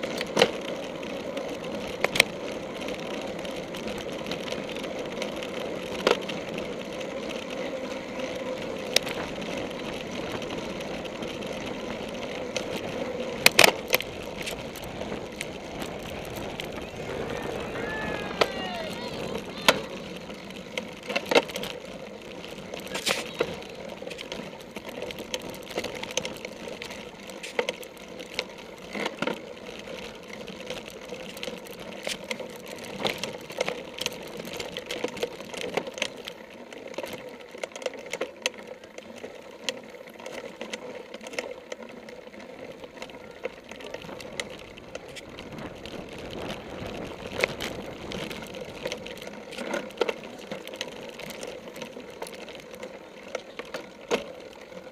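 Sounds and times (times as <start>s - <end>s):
bike rattling over bumpy grass: 0.0s - 54.9s.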